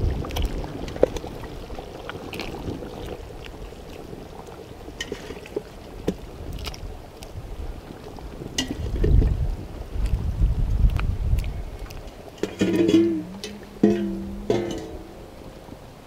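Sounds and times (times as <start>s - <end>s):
curry boiling: 0.0s - 16.0s.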